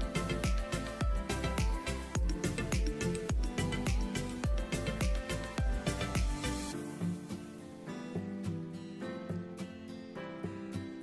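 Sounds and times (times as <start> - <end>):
background music with steady beat: 0.0 - 9.7.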